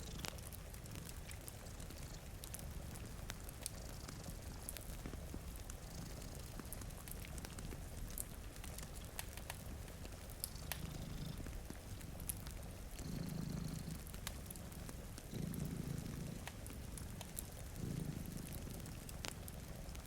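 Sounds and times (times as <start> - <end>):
cat purring: 0.0 - 20.0
wood fire crackling and popping: 0.0 - 20.0.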